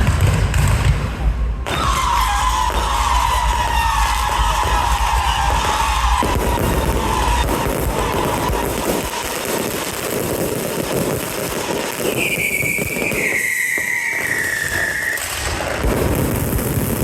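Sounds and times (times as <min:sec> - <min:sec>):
fireworks crackling: 0:00.0 - 0:17.0
high firework whistle: 0:01.6 - 0:17.0.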